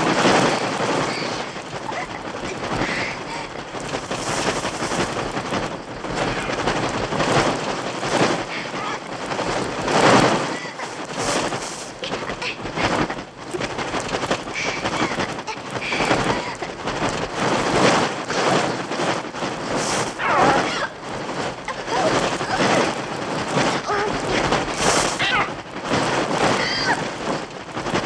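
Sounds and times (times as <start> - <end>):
electronic massed wingbeats: 0.0 - 28.0.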